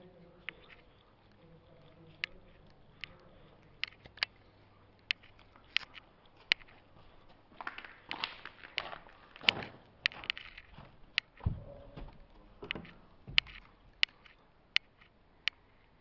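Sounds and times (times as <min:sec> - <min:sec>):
footsteps crunching on rubble: 0:02.1 - 0:15.1.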